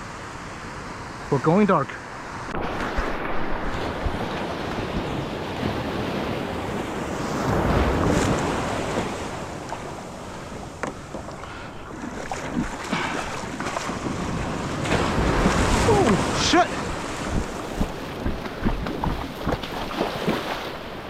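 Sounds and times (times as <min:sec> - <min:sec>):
ocean waves breaking: 0:00.0 - 0:21.0
wind buffeting microphone: 0:02.5 - 0:21.0.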